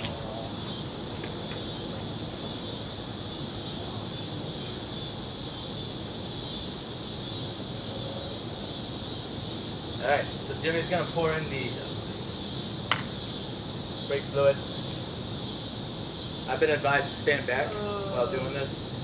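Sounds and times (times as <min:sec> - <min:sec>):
high-pitched insect chorus: 0:00.0 - 0:19.0
low outdoor background hum: 0:00.0 - 0:19.0.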